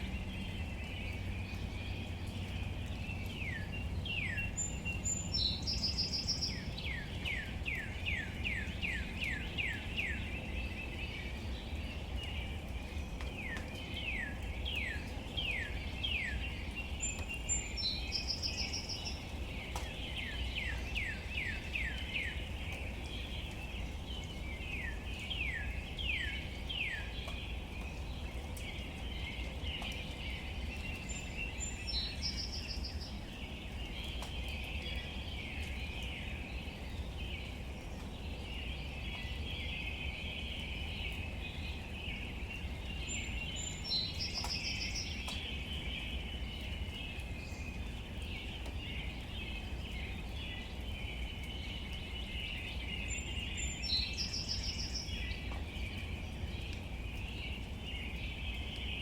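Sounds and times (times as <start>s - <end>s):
background bird chorus: 0.0s - 59.0s.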